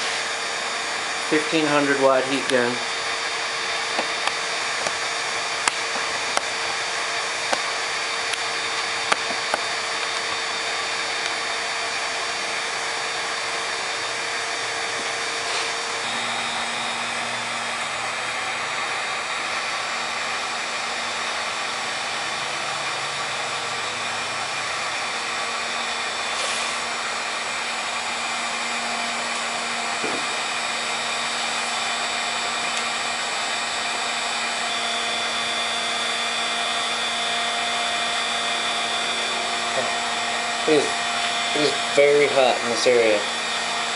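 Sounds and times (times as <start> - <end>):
motor hum: 0.0 - 42.1
heat gun blowing air: 0.0 - 43.9.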